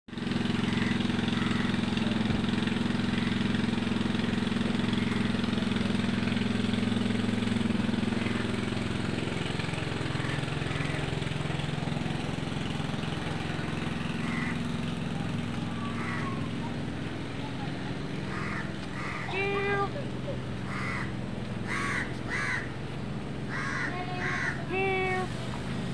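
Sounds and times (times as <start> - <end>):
low engine hum: 0.1 - 25.9.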